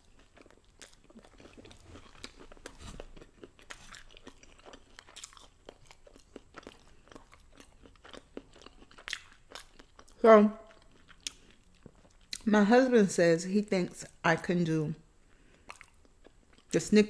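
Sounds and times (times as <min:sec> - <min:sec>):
person chewing and crunching food: 0:00.0 - 0:12.5, 0:15.2 - 0:16.8.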